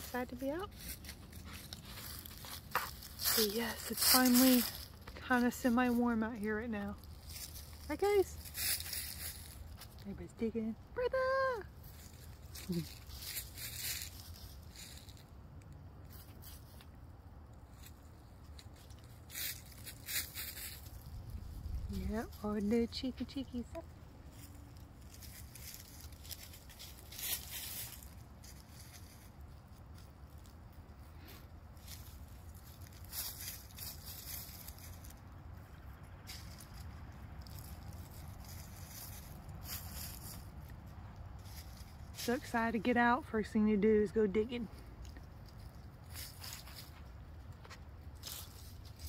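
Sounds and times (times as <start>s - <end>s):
dry leaves rustling and crackling: 0.0s - 49.0s
faint low rumble: 0.0s - 49.0s.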